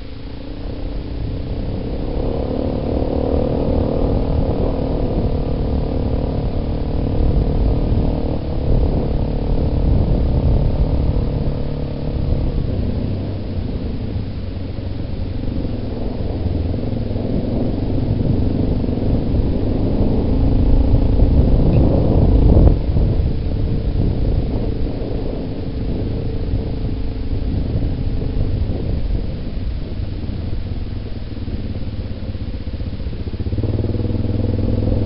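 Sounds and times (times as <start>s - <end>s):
quad bike engine running: 0.0s - 35.0s.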